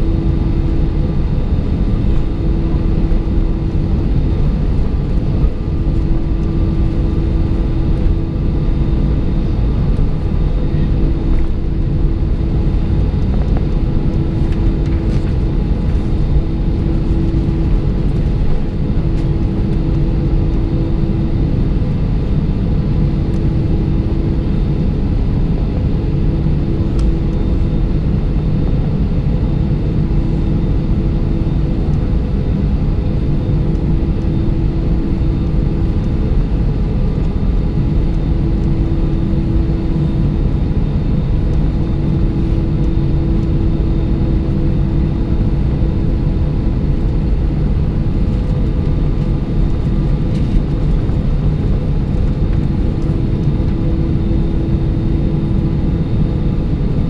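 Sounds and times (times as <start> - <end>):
aircraft engines droning: 0.0 - 57.0.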